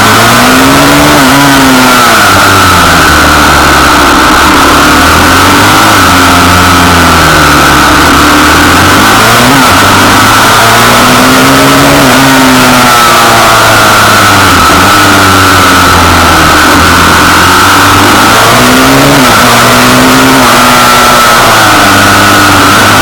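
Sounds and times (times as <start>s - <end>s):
motorbike engine revving: 0.0s - 23.0s.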